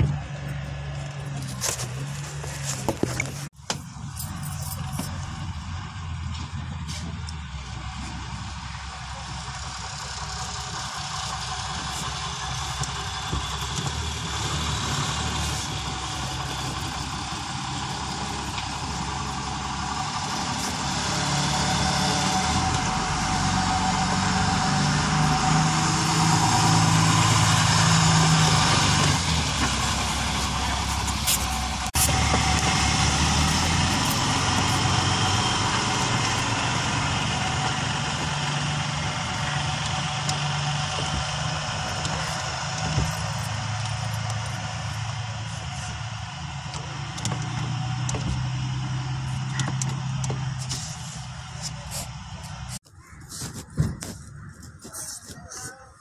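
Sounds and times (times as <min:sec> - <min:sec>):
car engine revving: 0:00.0 - 0:52.8.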